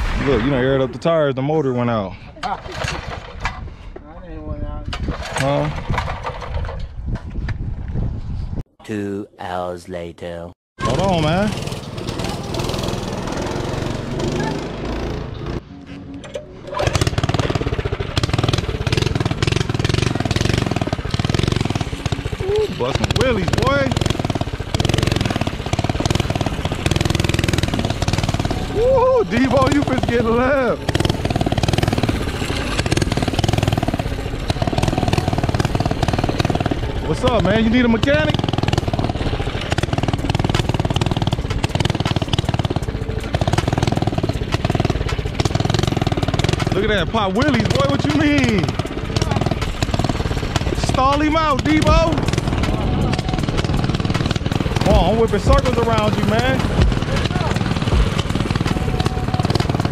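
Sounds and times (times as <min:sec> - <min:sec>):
mini bike engine revving: 0:10.8 - 0:15.6, 0:16.7 - 0:59.9.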